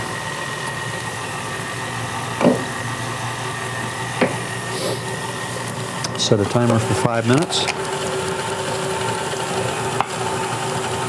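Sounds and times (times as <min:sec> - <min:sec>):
high steady whine: 0:00.0 - 0:11.0.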